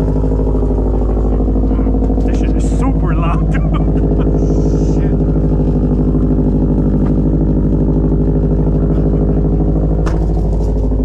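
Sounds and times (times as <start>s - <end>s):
car engine idling loudly: 0.0s - 11.0s.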